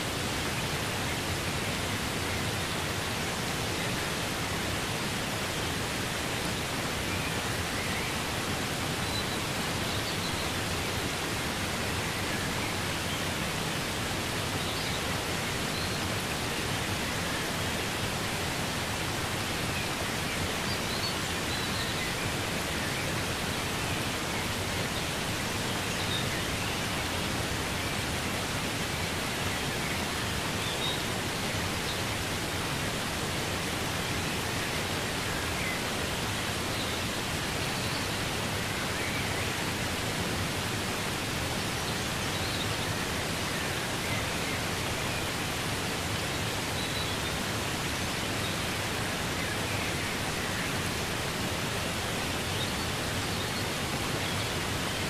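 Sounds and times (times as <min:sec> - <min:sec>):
waterfall pouring over rocks: 0:00.0 - 0:55.0.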